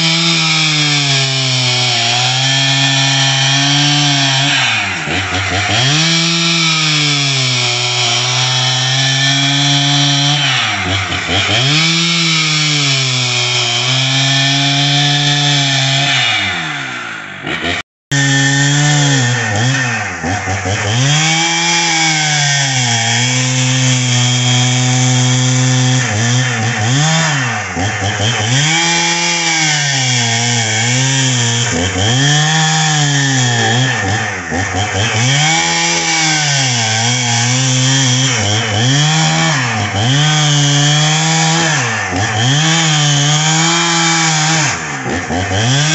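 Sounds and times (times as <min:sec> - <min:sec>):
chainsaw cutting log: 0:00.0 - 0:45.9.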